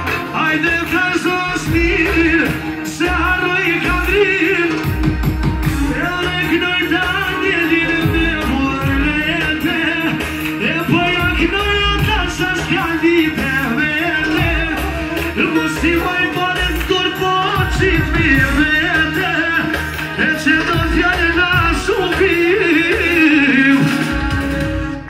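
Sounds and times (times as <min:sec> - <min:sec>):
backing music with heavy bass beat: 0:00.0 - 0:25.0
man singing into a microphone: 0:00.0 - 0:25.0.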